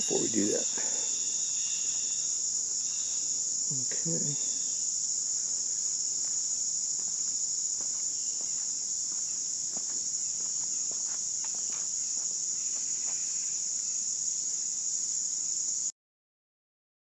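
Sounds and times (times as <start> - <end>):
faint ticks and scuffs: 0.0 - 14.4
insect chorus chirring: 0.0 - 15.9.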